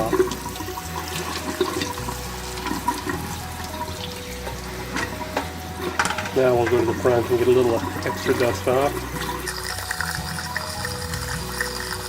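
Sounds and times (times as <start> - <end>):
tap water running through filter: 0.0 - 12.0.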